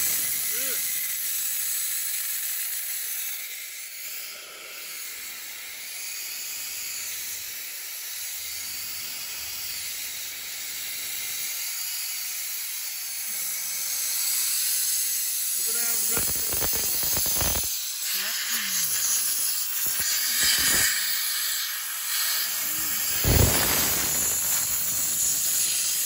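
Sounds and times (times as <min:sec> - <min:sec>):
compressed air hissing from valve: 0:00.0 - 0:26.0.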